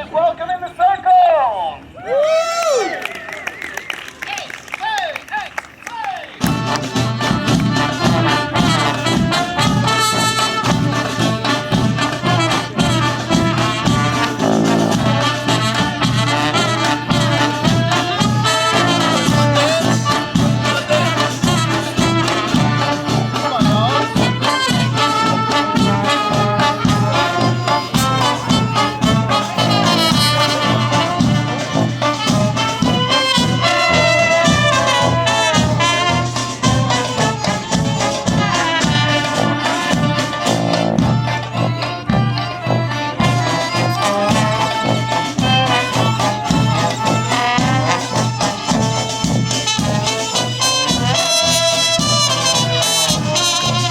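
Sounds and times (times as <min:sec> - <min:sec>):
street band with horns: 0:00.0 - 0:53.9.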